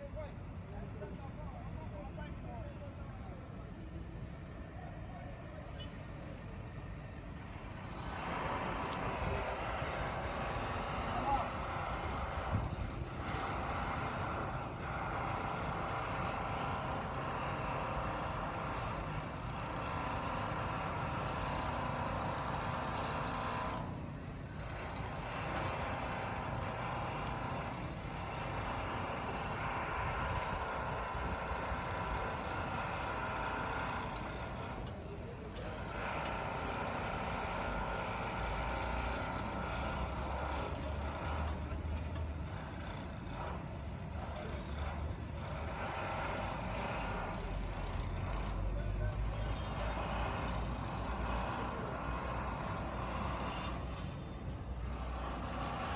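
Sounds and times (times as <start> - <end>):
road traffic: 0.1 - 55.9.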